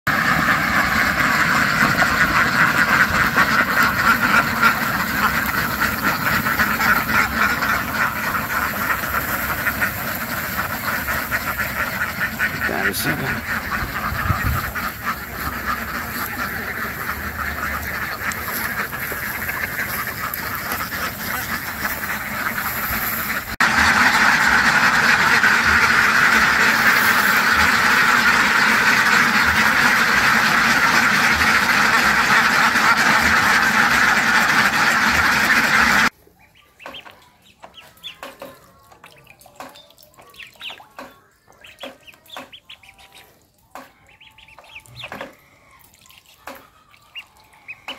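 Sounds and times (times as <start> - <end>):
flock of ducks quacking: 0.1 - 47.9.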